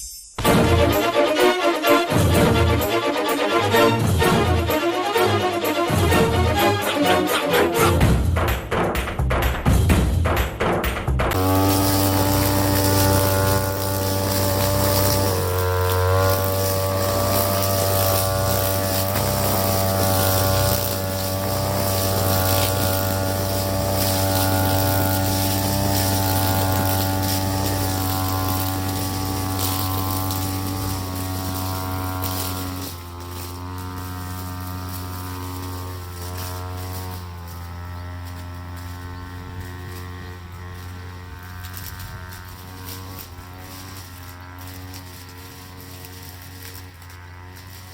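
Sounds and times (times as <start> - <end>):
two-stroke brushcutter engine: 0.4 - 8.1, 11.3 - 47.9.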